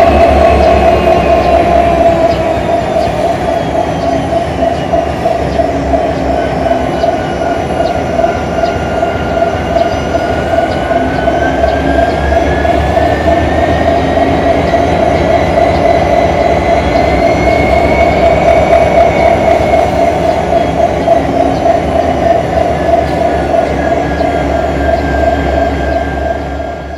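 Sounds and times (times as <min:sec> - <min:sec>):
locomotive diesel engine drone: 0:00.0 - 0:26.9.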